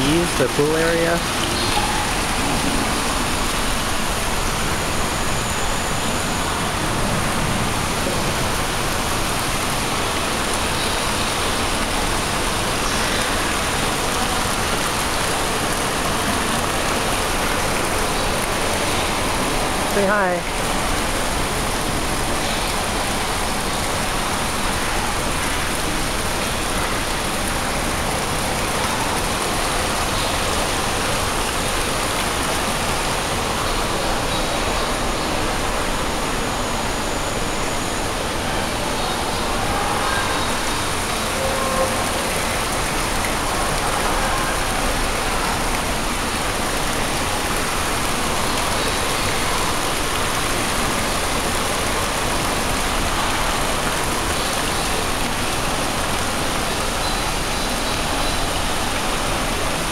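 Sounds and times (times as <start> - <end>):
water jets splashing into pool: 0.0 - 59.9.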